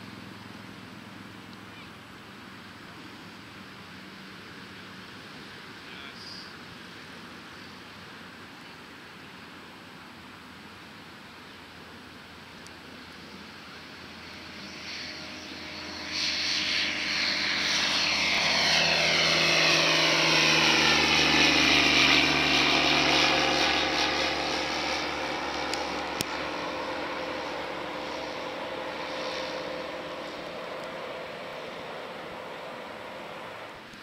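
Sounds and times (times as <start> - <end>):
light aircraft flying past: 0.0 - 34.0.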